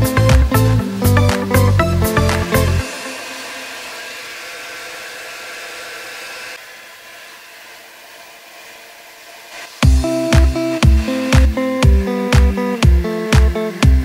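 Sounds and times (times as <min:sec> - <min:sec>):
rushing air hiss: 0:00.0 - 0:06.6, 0:08.4 - 0:13.8.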